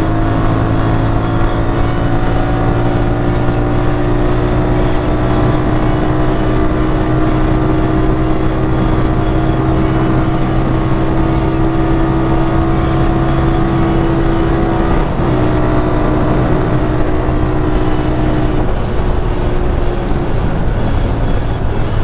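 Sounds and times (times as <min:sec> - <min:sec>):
background music: 0:00.0 - 0:22.0
motorcycle engine cruising: 0:00.0 - 0:22.0.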